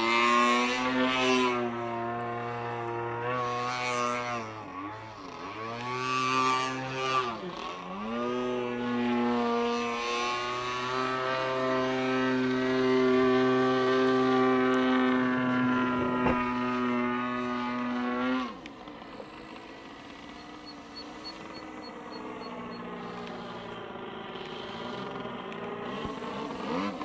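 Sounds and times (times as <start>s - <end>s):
model airplane engine idling: 0.0s - 27.0s.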